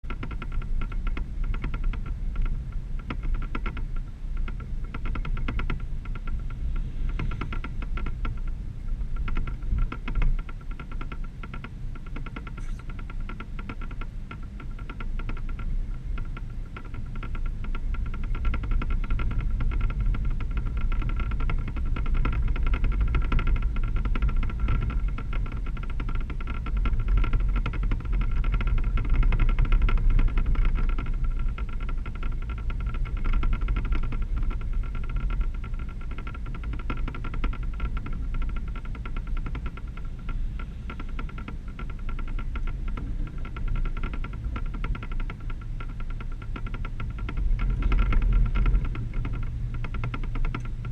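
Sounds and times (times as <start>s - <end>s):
engine and tyre rumble: 0.0s - 50.9s.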